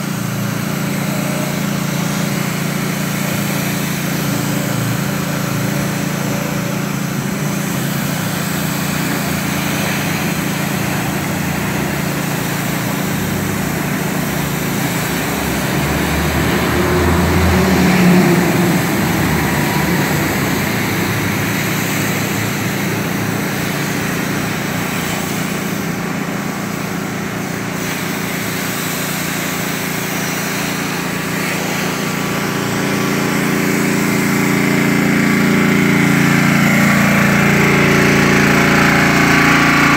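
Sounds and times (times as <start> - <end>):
pressure washer engine running: 0.0 - 39.9
water jet hissing on concrete: 0.0 - 39.9.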